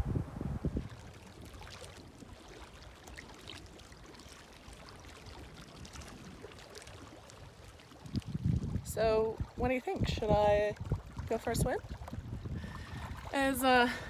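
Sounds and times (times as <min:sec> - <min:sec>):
lake water lapping: 0:00.6 - 0:14.0
small water splashes: 0:00.6 - 0:14.0.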